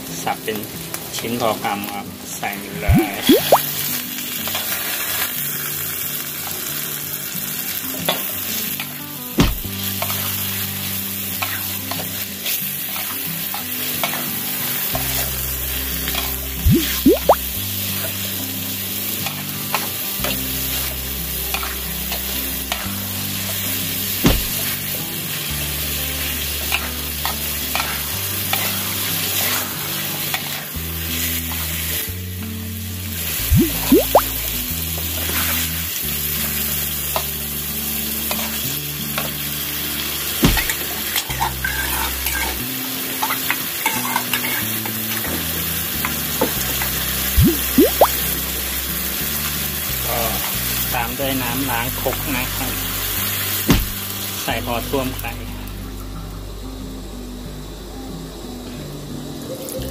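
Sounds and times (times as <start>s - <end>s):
chicken sizzling in a wok: 0.0s - 57.9s.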